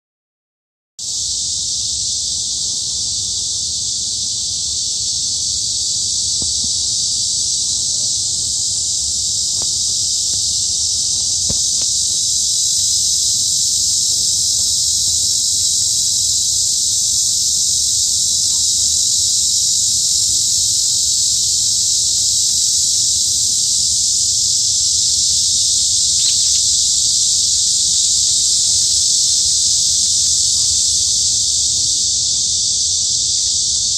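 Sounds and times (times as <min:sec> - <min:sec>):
cicadas buzzing: 0:01.0 - 0:33.9.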